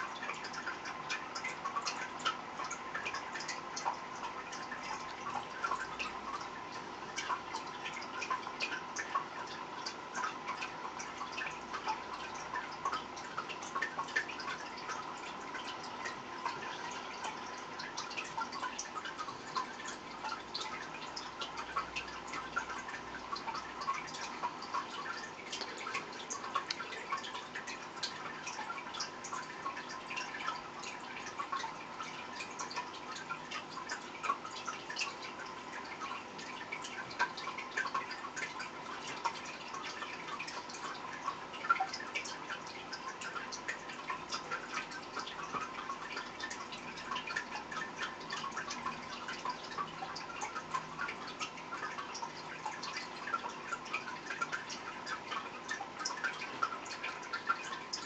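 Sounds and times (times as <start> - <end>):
water dripping and trickling: 0.0 - 58.0.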